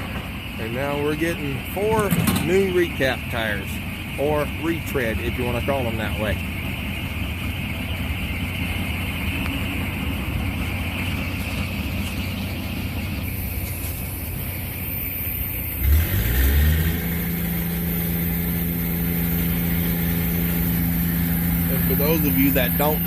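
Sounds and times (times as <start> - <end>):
diesel engines running with hiss: 0.0 - 23.0
motor starting and idling: 0.0 - 23.0.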